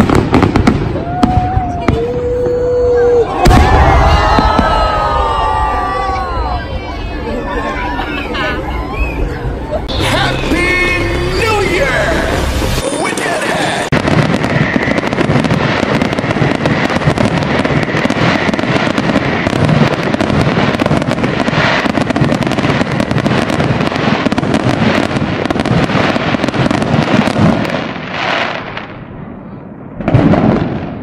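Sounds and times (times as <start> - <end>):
fireworks crackling and banging: 0.0 - 7.4, 9.8 - 31.0.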